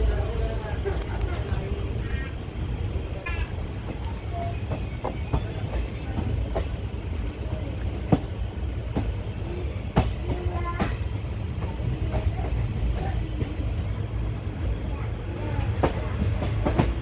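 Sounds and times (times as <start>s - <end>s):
train wheels rumbling on track: 0.0s - 17.0s
wheels clacking over rail joints: 3.0s - 17.0s.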